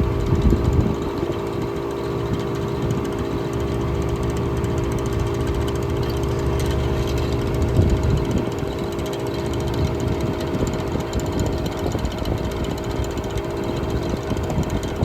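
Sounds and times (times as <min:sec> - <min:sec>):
air conditioner running: 0:00.0 - 0:15.0.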